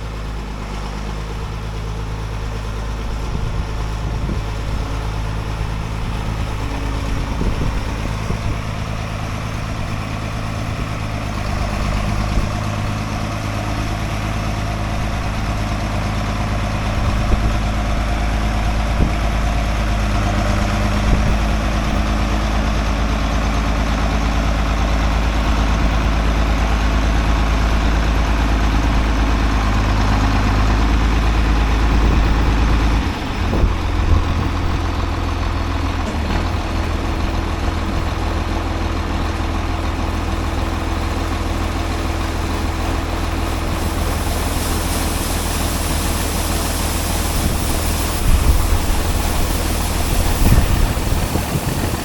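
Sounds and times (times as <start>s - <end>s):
large machinery engine running: 0.0s - 52.0s.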